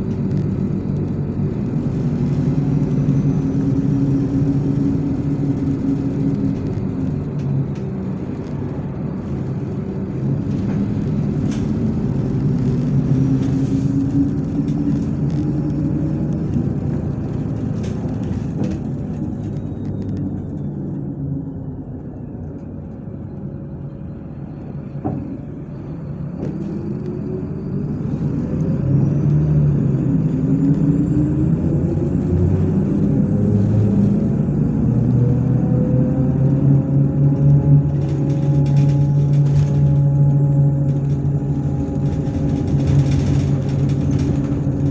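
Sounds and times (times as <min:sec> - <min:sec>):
bus engine and drivetrain: 0:00.0 - 0:44.9.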